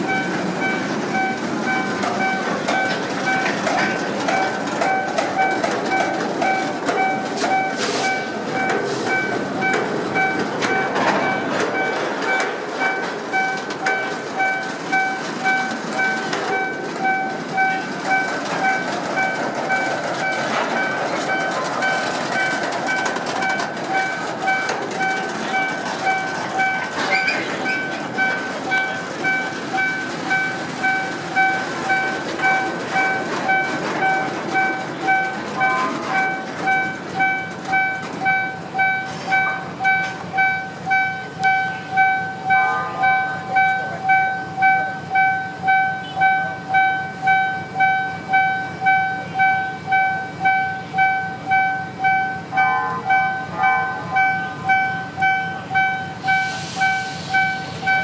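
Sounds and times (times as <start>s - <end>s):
crossing warning signal tone: 0.0s - 58.0s
train wheels rumbling and clacking: 0.0s - 58.0s.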